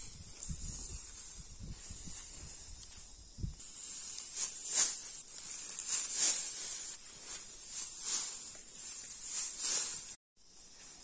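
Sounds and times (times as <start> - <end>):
dry grass rustling: 0.0 - 11.0
high insect hiss: 0.0 - 11.0.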